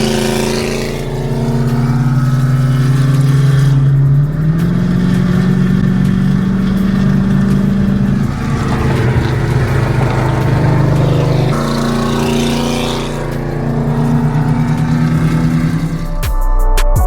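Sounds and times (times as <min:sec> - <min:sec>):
road and wind noise: 0:00.0 - 0:16.2
car engine running steadily: 0:00.0 - 0:16.3.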